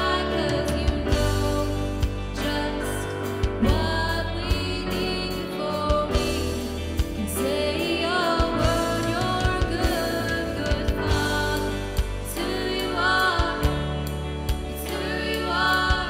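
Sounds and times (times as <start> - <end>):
live band playing: 0.0 - 16.0
woman singing: 0.0 - 16.0.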